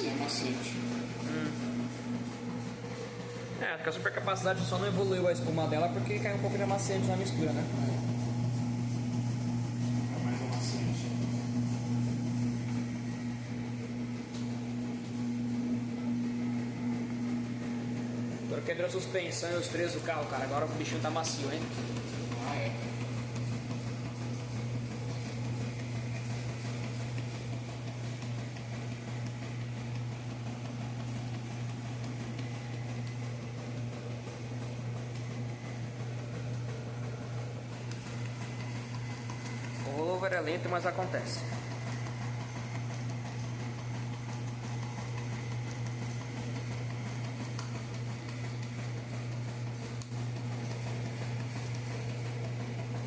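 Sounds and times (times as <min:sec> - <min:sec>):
washing machine churning: 0:00.0 - 0:53.0
washing machine motor hum: 0:00.0 - 0:53.0.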